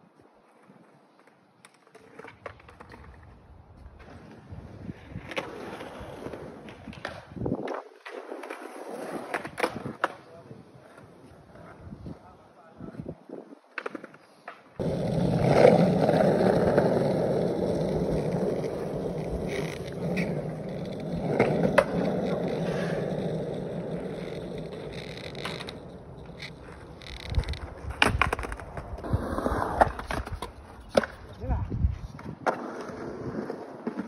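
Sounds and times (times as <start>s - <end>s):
skateboard wheels rolling on concrete: 0.0s - 34.0s.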